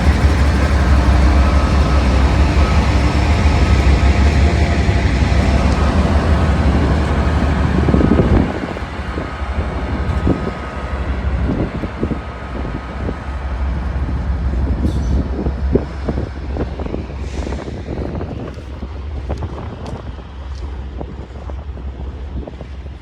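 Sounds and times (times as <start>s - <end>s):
train cars knocking and clattering: 0.0s - 23.0s
train rumbling past: 0.0s - 23.0s.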